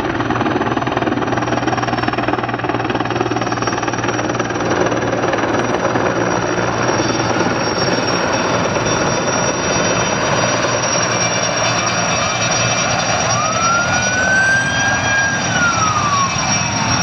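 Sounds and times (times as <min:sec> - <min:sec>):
helicopter rotor noise: 0:00.0 - 0:17.0
turbine engine whine: 0:00.0 - 0:17.0.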